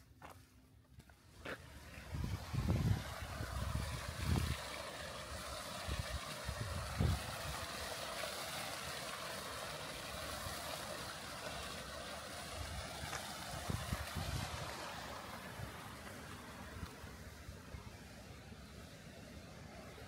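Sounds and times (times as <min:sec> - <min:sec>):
steady rushing noise: 0:01.6 - 0:20.0.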